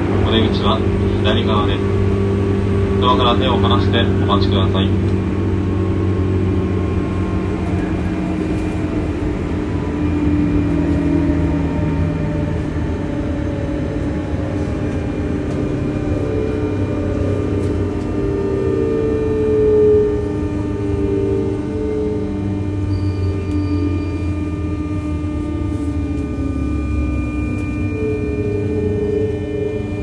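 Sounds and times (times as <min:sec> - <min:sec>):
traction motors whining: 0:00.0 - 0:30.0
train rumble: 0:00.0 - 0:30.0.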